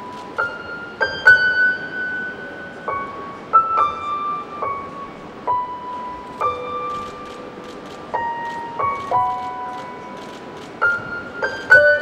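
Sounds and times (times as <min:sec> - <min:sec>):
slow sparse piano melody: 0:00.0 - 0:12.0.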